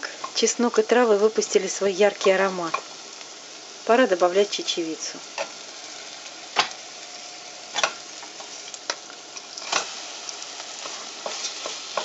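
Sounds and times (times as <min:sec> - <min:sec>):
onion and garlic sizzling in pan: 0:00.0 - 0:12.0.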